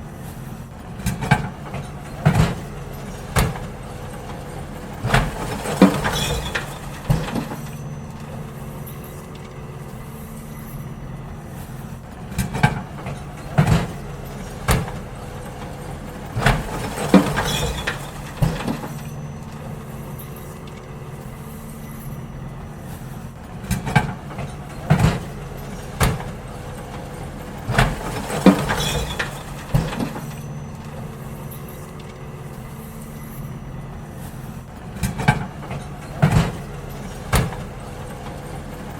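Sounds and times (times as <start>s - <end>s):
bins banging and clattering: 0.0s - 38.9s
diesel engine running: 0.0s - 38.9s.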